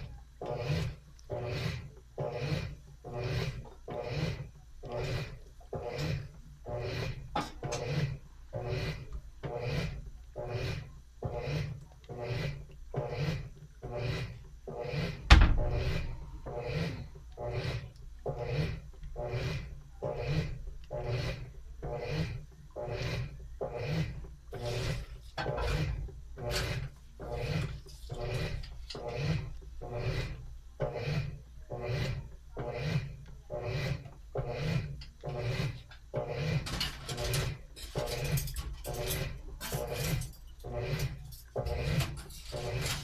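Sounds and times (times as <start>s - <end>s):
washing machine agitating: 0.0s - 43.0s.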